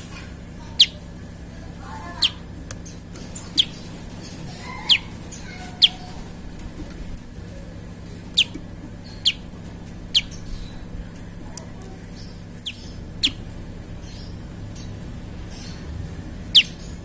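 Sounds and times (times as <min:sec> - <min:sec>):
steady low hum: 0:00.0 - 0:17.0
bird chirping: 0:00.6 - 0:01.1, 0:01.9 - 0:17.0.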